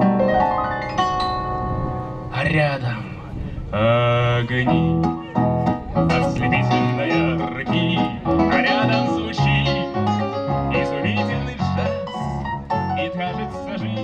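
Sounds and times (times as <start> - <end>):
acoustic guitar: 0.0 - 2.6, 3.8 - 14.0
keyboard piano sound: 0.0 - 14.0.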